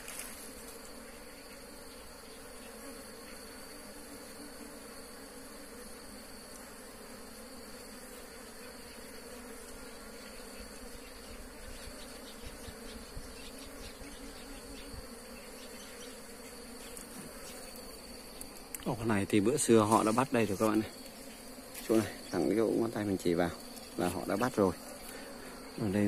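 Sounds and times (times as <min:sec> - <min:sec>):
high insect whine: 0:00.0 - 0:26.0
honeybees buzzing in a swarm: 0:00.0 - 0:26.0.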